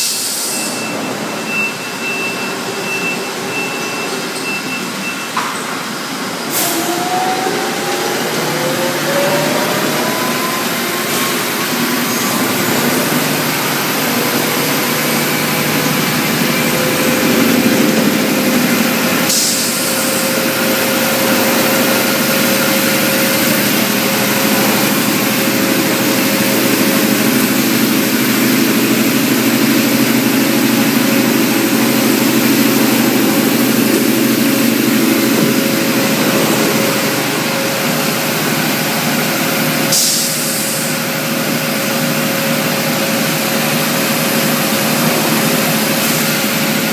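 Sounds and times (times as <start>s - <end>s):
laundry machinery din: 0.5s - 46.9s.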